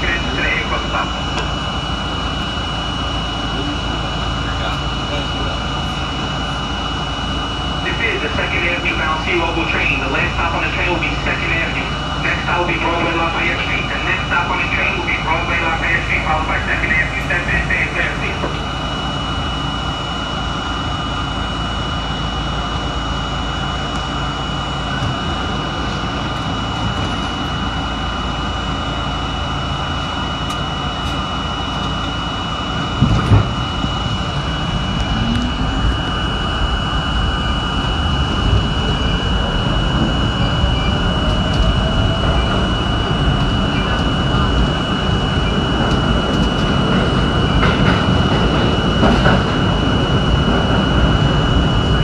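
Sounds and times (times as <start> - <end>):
steady high tone: 0.0 - 52.0
train motor whine rising: 0.0 - 52.0
train wheel-on-rail rumble: 0.0 - 52.0.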